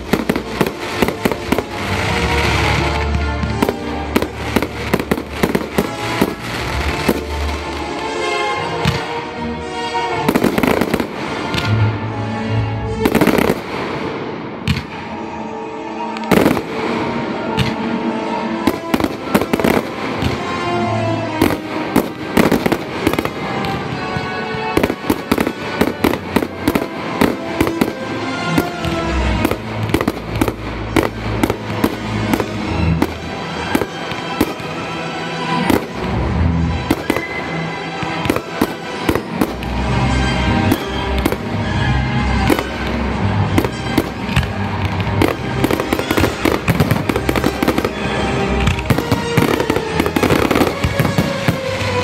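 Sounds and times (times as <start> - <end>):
fireworks bangs and cracks: 0.0 - 8.1, 10.3 - 12.0, 13.0 - 15.2, 16.2 - 18.0, 18.6 - 20.7, 21.3 - 41.7, 42.3 - 52.0.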